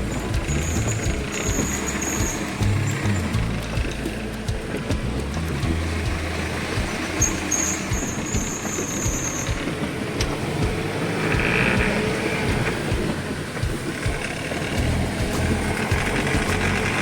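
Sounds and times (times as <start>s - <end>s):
truck cab rattling and knocking: 0.0s - 17.0s
truck engine running: 0.0s - 17.0s.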